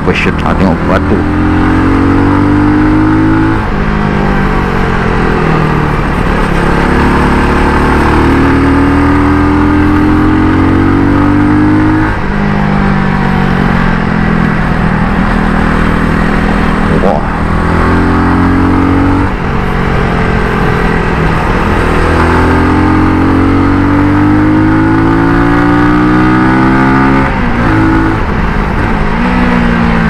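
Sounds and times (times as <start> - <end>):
motorcycle engine revving: 0.0 - 30.0
wind and road noise: 0.0 - 30.0.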